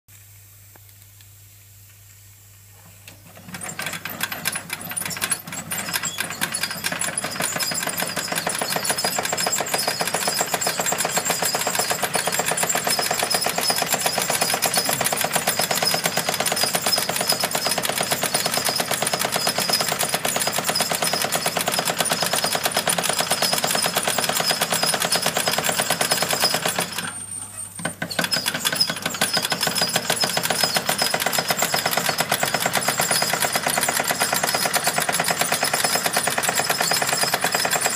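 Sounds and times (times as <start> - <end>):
toy steam engine clattering: 3.1 - 37.9.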